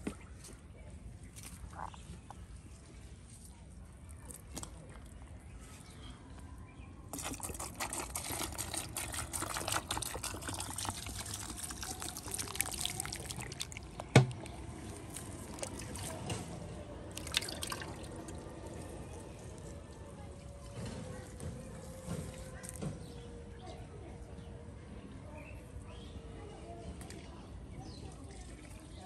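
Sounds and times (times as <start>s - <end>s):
muddy water trickling and splashing: 0.0s - 23.8s, 26.9s - 29.0s.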